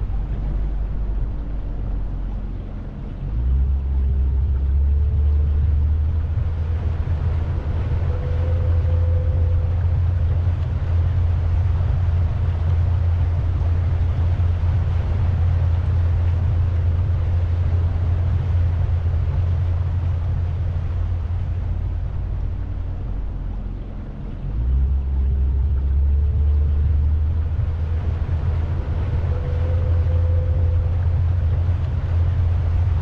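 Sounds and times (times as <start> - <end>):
boat motor rumbling: 0.0 - 33.0
hiss of water and wind: 0.0 - 33.0.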